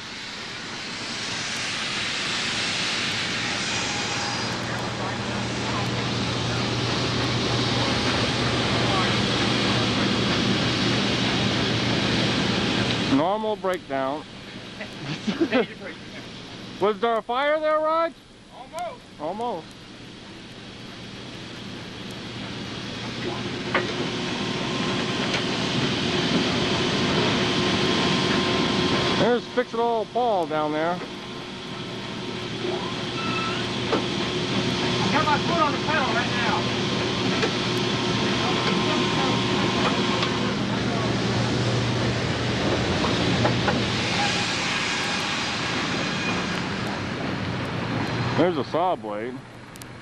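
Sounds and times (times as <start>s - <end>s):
sawmill machinery running: 0.0s - 50.0s
steady hum: 0.0s - 50.0s.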